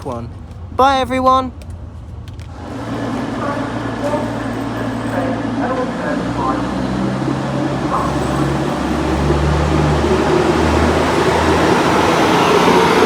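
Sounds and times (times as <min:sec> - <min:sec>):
diesel train engine hum: 0:00.0 - 0:13.0
broad rushing noise: 0:02.5 - 0:13.0.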